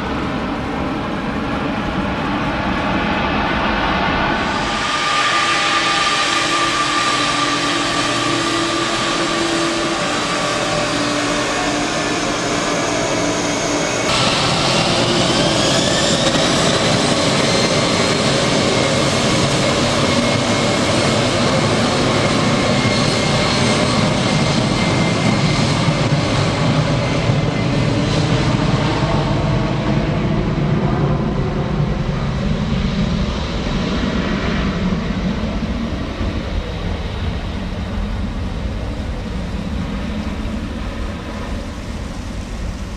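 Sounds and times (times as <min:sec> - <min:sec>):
jet engines whining: 0:00.0 - 0:42.9.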